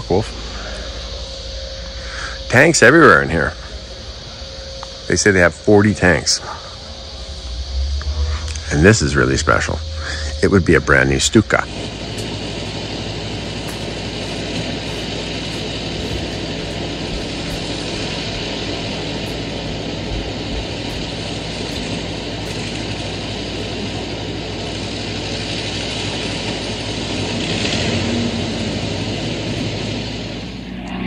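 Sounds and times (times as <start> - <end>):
aircraft piston engine running: 0.0 - 31.0.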